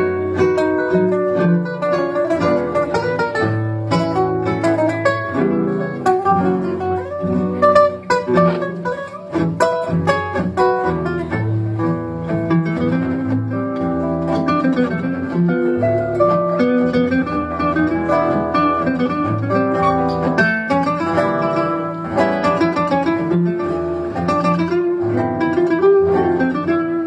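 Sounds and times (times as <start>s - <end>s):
guitar quartet playing tango: 0.0s - 27.0s.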